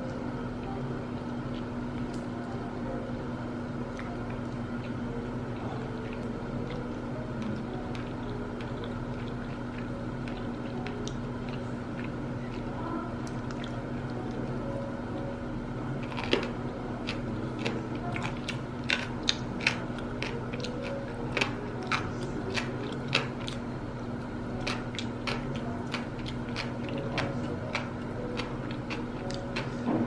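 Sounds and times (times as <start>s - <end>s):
chewing with clicks: 0.0s - 2.6s, 3.9s - 15.2s, 16.0s - 29.9s.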